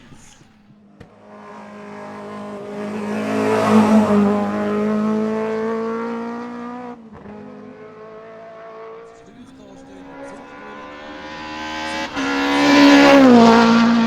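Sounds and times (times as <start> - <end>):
race car engine passing: 1.2 - 14.0.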